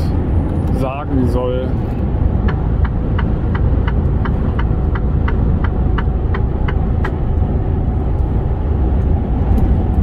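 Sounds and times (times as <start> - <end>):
truck engine and road drone: 0.0 - 10.0
turn signal ticking: 0.4 - 10.0.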